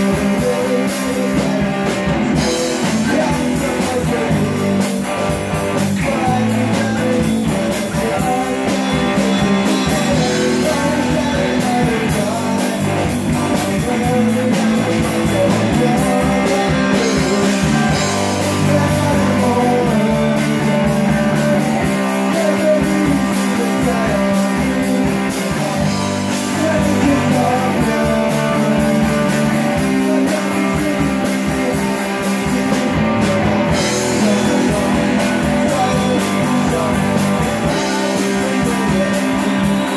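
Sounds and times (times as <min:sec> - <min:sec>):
drums: 0:00.0 - 0:39.9
electric bass: 0:00.0 - 0:39.9
electric guitar: 0:00.0 - 0:39.9
man singing: 0:00.0 - 0:39.9.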